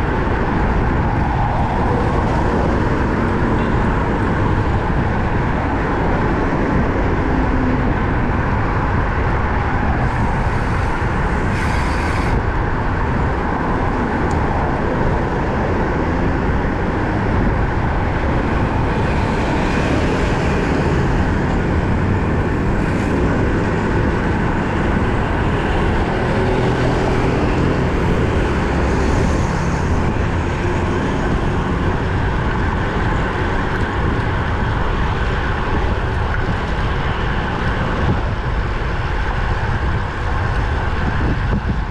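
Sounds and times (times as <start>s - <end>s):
vehicles passing: 0.0s - 41.9s
wind and road noise: 0.0s - 41.9s.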